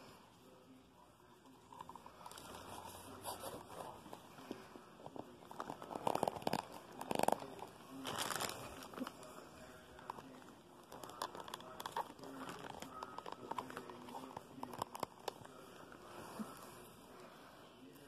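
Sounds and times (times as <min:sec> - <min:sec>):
plastic rustling and crinkling: 0:01.8 - 0:16.6.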